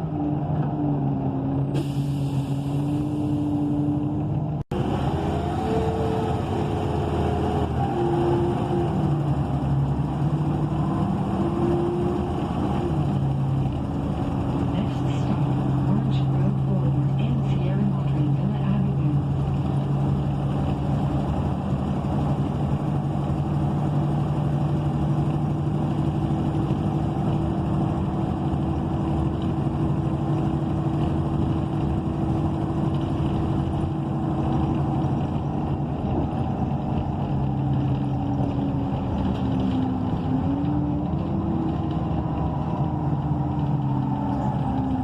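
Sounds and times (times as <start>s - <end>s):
bus engine running: 0.0s - 45.0s
tyre and road noise: 0.0s - 45.0s.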